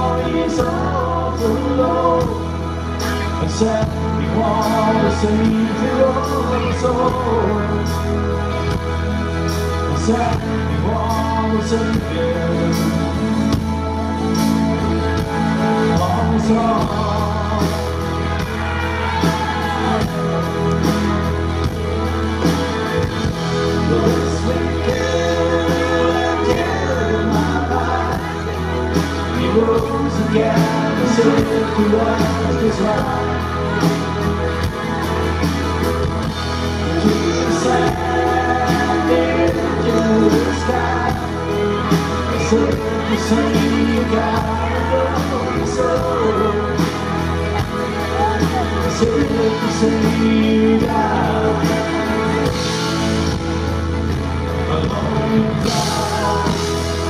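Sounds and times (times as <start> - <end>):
rock band playing: 0.0 - 57.0
wavering electric guitar lead: 0.0 - 57.0.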